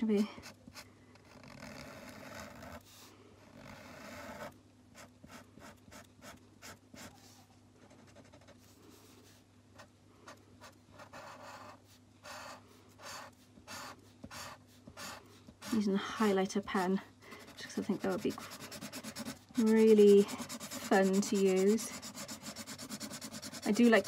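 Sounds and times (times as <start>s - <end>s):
highlighter pen scratching on paper: 0.4s - 16.3s, 17.4s - 24.0s.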